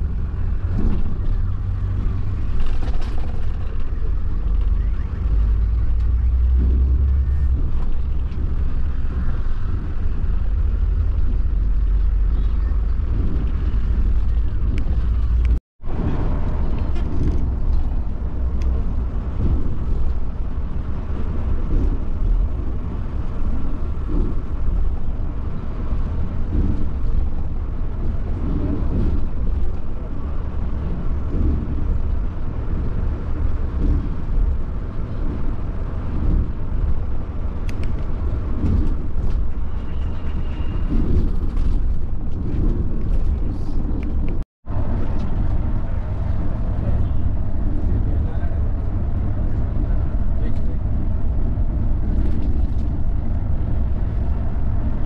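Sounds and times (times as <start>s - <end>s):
coach rumbling on road: 0.0s - 55.0s.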